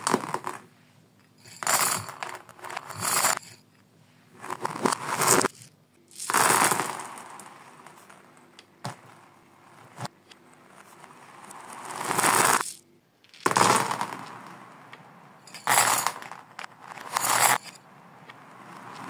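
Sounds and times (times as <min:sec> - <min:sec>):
plastic beads clattering on floor: 0:00.0 - 0:00.7, 0:01.4 - 0:03.6, 0:04.4 - 0:14.6, 0:15.4 - 0:17.8.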